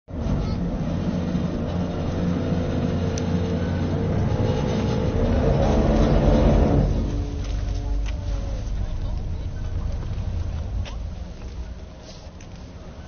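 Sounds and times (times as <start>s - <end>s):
ferry engine running and revving: 0.1s - 13.0s.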